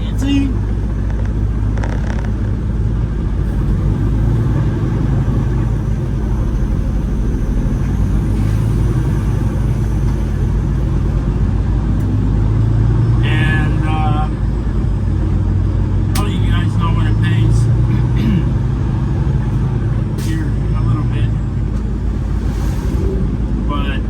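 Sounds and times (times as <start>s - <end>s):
road noise: 0.0s - 24.0s
truck diesel engine droning: 0.0s - 24.0s.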